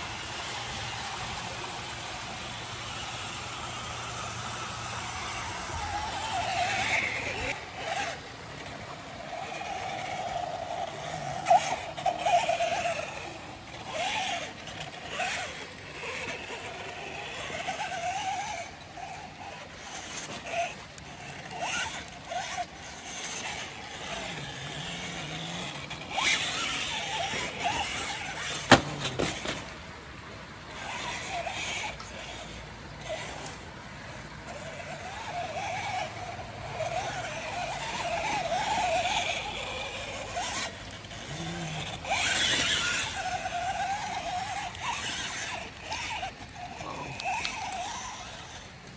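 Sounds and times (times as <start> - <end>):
electric motor whining: 0.0 - 48.9
tires scraping and knocking on rock: 0.0 - 48.9.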